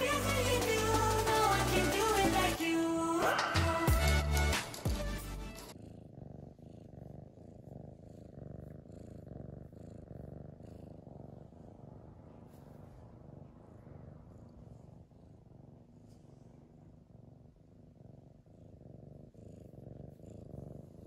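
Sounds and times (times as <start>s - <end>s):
cat purring: 0.0s - 4.5s, 5.1s - 21.0s.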